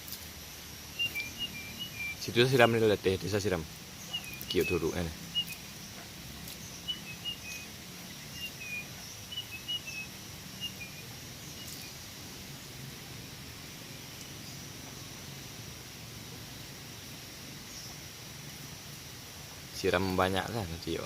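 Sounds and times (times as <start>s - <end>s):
bird chirping: 0.0s - 15.8s, 17.4s - 18.7s
faint steady hiss: 0.0s - 21.0s
thin high steady tone: 0.0s - 21.0s.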